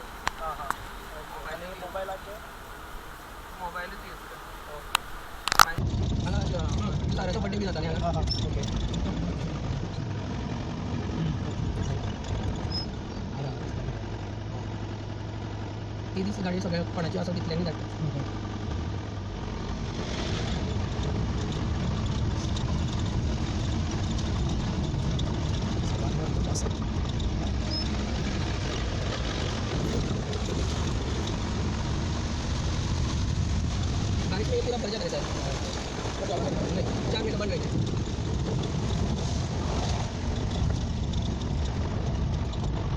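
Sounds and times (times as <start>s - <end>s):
rushing noise: 0.0s - 42.9s
vehicle engine running: 0.0s - 42.9s.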